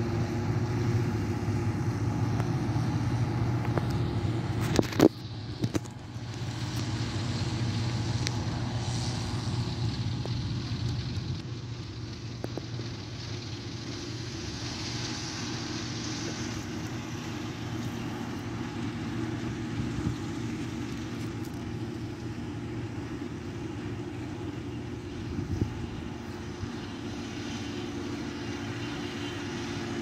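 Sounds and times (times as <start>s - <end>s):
heavy diesel engines droning: 0.0s - 30.0s.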